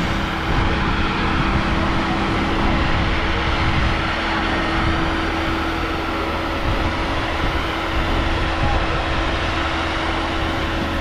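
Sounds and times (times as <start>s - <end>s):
constant whine: 0.0s - 11.0s
garbage truck engine drone: 0.0s - 11.0s.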